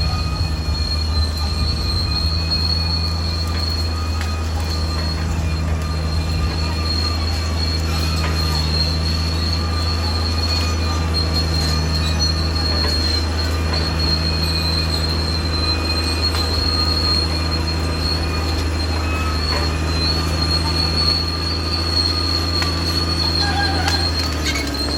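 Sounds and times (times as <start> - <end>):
bulldozer diesel engine running: 0.0 - 24.9
crawler tracks squealing: 0.0 - 24.9.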